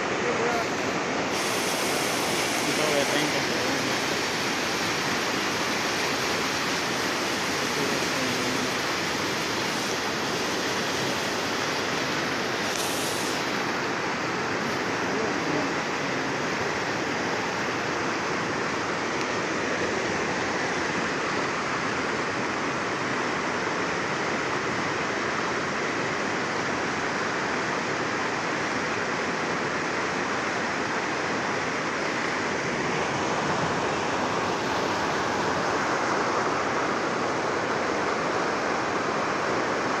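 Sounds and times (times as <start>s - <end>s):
river water roaring: 0.0s - 40.0s.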